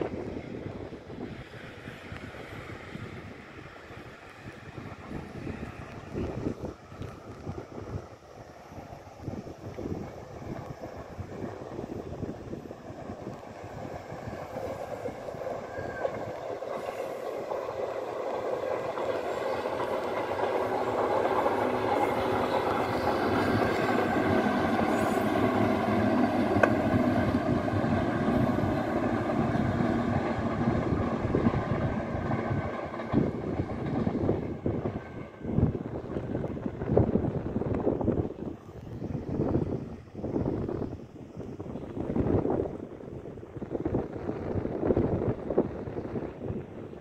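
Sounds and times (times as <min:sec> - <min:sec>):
train passing on rails: 0:00.0 - 0:47.0.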